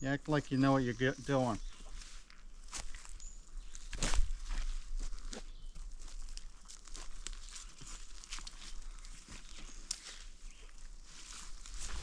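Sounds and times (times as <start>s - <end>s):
footsteps crunching through dry brush: 0.3s - 12.0s.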